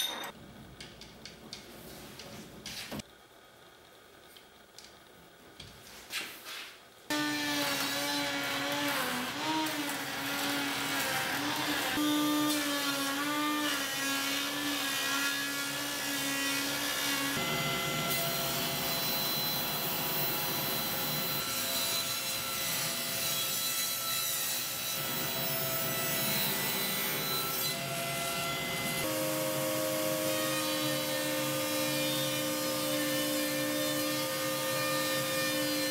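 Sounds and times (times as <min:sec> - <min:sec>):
table saw whine: 0:07.1 - 0:35.9.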